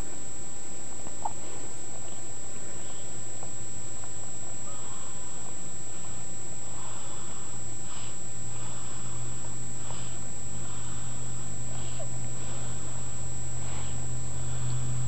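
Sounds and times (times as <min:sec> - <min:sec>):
steady low hum: 0:00.0 - 0:15.0
baby snoring: 0:01.2 - 0:03.2, 0:04.6 - 0:15.0.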